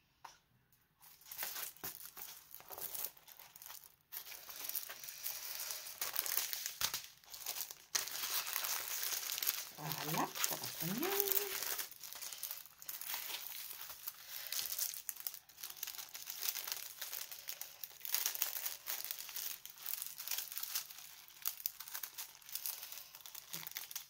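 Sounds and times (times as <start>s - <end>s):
plastic packaging crinkling: 1.0s - 24.0s.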